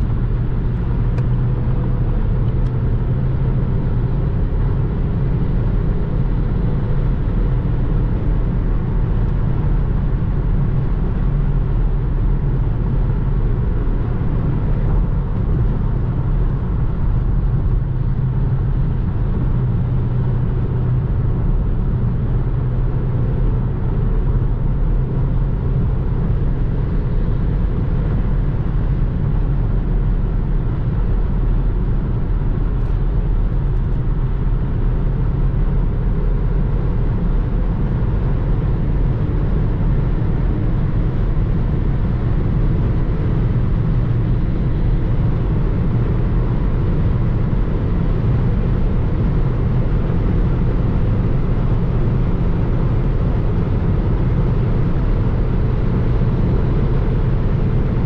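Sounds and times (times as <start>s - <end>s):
car engine drone: 0.0s - 58.0s.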